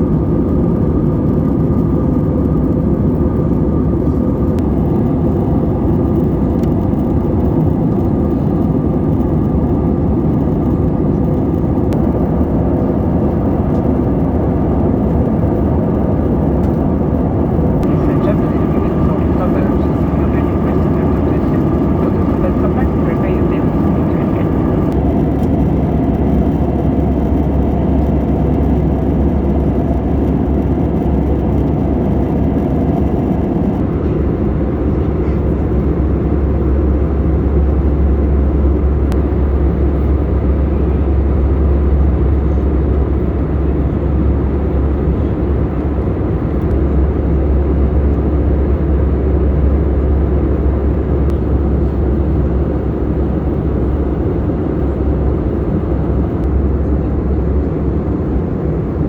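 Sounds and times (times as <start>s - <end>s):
jet engine drone: 0.0s - 59.0s.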